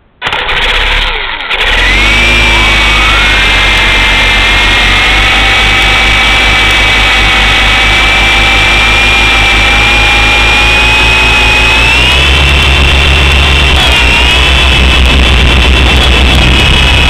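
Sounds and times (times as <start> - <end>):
toy helicopter rotors whining: 0.2 - 17.0
constant low rumble: 2.0 - 17.0.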